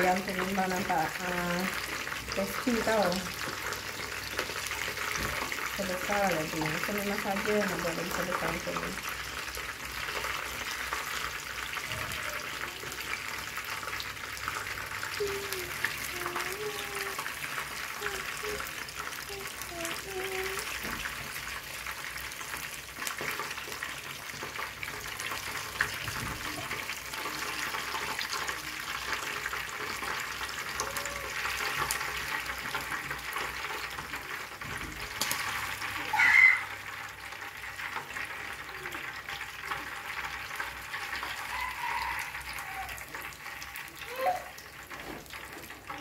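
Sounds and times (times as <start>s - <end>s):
chicken deep-frying in oil: 0.0s - 46.0s.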